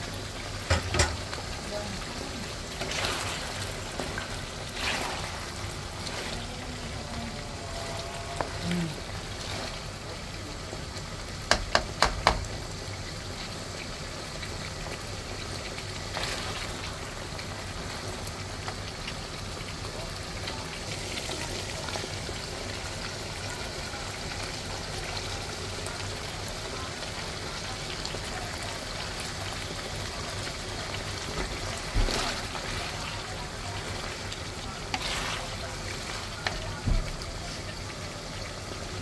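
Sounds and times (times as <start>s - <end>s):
pan sizzling and simmering: 0.0s - 39.0s.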